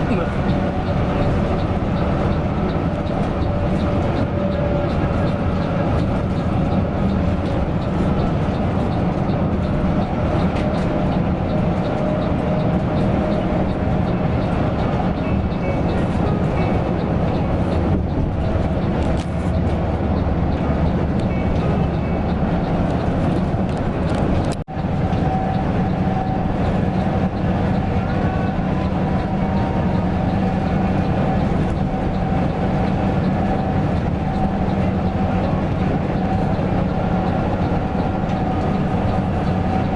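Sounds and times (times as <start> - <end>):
coach engine and road drone: 0.0 - 39.9.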